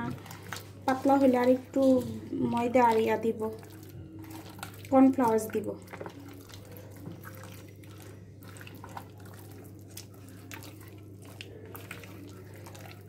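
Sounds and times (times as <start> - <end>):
hand squelching in wet marinade: 0.0 - 13.0.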